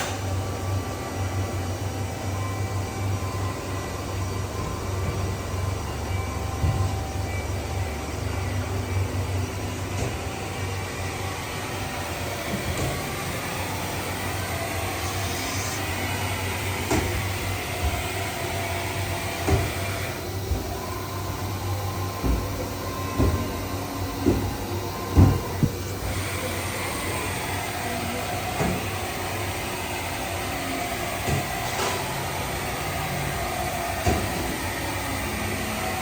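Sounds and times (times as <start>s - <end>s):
machining center humming: 0.0s - 36.0s.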